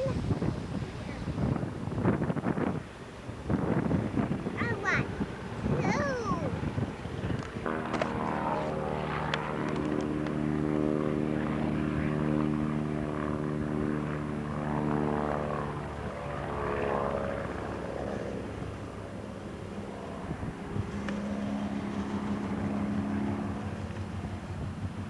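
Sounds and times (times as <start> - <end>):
propeller airplane engine droning: 0.0 - 25.0.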